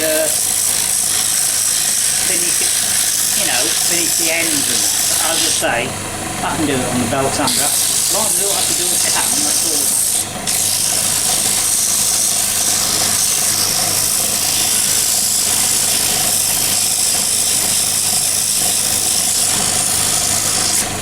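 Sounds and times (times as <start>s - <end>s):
electric sander on wood: 0.0s - 21.0s.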